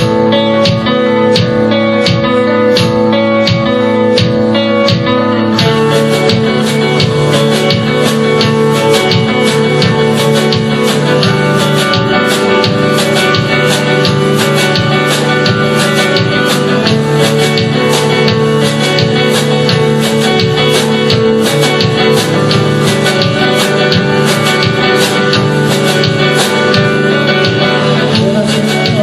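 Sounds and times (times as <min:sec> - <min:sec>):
experimental noise music: 0:00.0 - 0:29.0.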